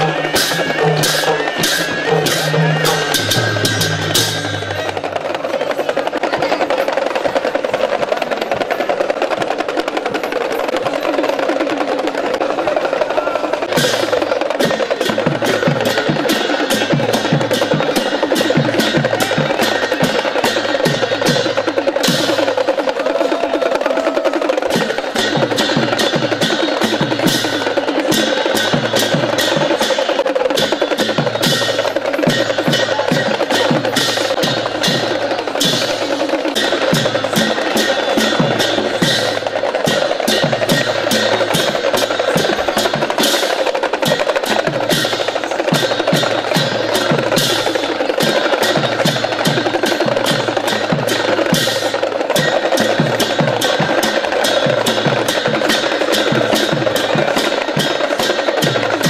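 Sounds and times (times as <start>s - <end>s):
barrel drum beaten fast: 0.0s - 59.0s.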